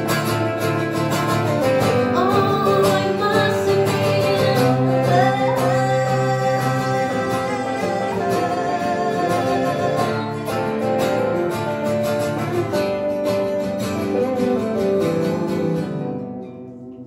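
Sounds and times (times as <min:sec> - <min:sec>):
two acoustic guitars playing: 0:00.0 - 0:17.0.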